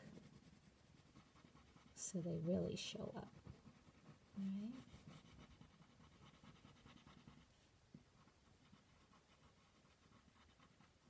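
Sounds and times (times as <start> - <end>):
crayon scratching on paper: 0.0 - 11.0.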